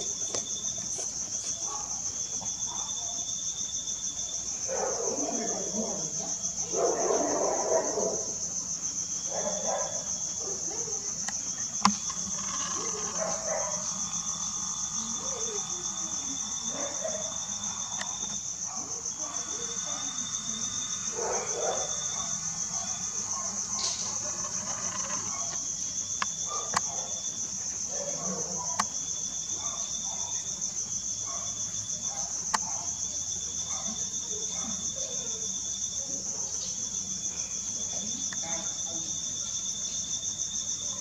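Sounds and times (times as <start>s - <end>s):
crickets chirping: 0.0s - 41.0s
lower insect trill: 0.0s - 41.0s.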